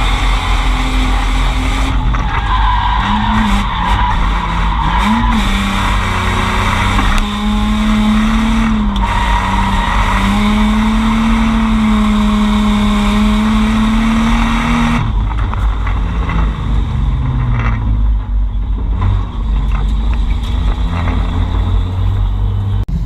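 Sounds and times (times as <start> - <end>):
car engine revving high: 0.0 - 22.8
low engine rumble: 0.0 - 23.0.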